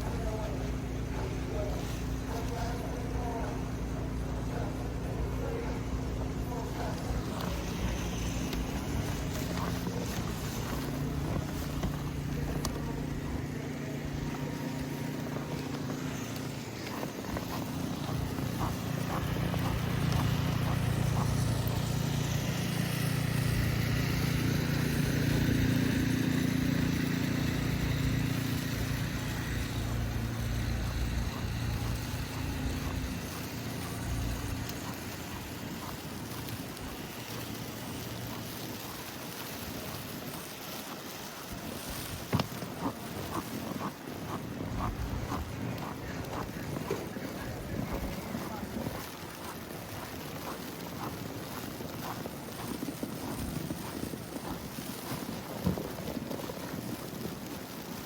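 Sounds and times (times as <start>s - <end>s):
vehicle engine humming: 0.0s - 51.8s
street noise: 0.0s - 56.0s.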